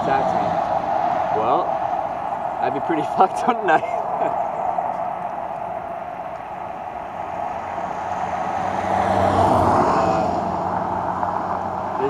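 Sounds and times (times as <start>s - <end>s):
rushing background noise: 0.0s - 12.0s
vehicle passing on road: 0.0s - 12.0s.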